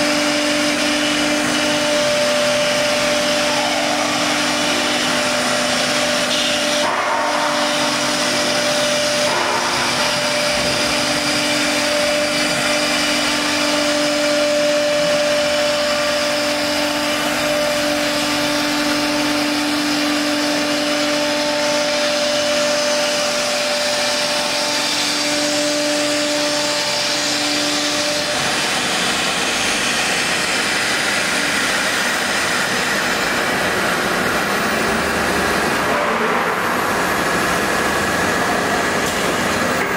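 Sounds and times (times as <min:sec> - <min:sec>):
machine whining tones: 0:00.0 - 0:39.9
router machine rushing noise: 0:00.0 - 0:39.9.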